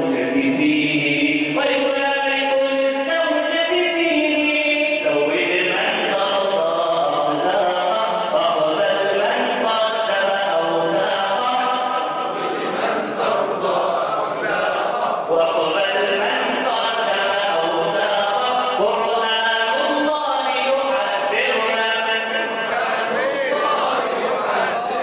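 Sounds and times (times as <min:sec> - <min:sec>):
man singing unaccompanied: 0:00.0 - 0:12.2, 0:14.3 - 0:25.0.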